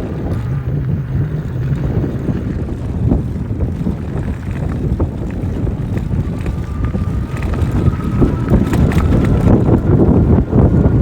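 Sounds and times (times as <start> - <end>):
low rumble of bike rolling: 0.0 - 11.0
wind buffeting microphone: 0.0 - 11.0.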